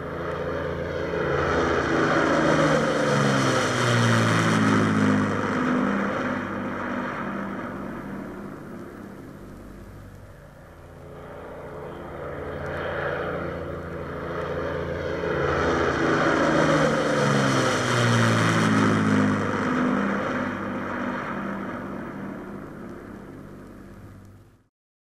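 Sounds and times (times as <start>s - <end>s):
propeller aircraft engines droning: 0.0s - 24.7s.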